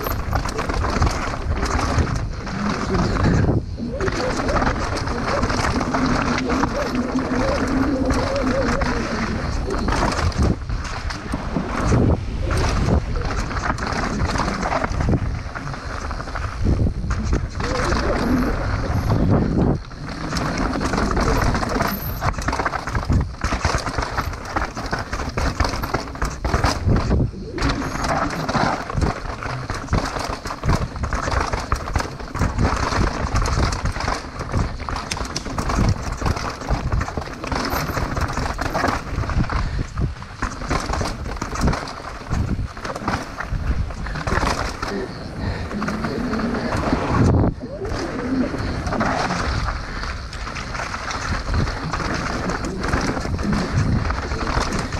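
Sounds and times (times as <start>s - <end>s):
bike knocking and rattling: 0.0s - 54.9s
tyres rushing on dirt trail: 0.0s - 54.9s
wind buffeting microphone: 0.0s - 54.9s.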